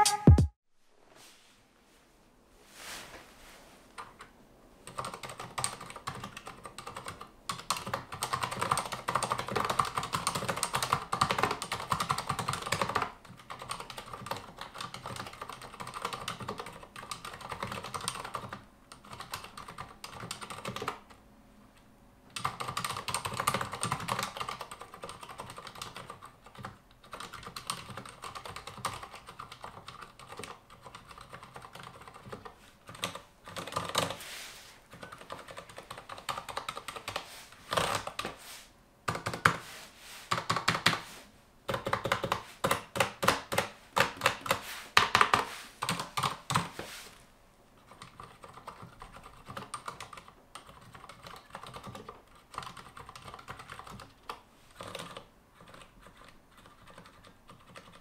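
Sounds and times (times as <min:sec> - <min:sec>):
mechanical keyboard typing: 0:04.8 - 0:21.2, 0:22.4 - 0:34.2, 0:34.9 - 0:38.4, 0:39.1 - 0:39.6, 0:40.3 - 0:41.0, 0:41.7 - 0:46.7, 0:47.8 - 0:58.0.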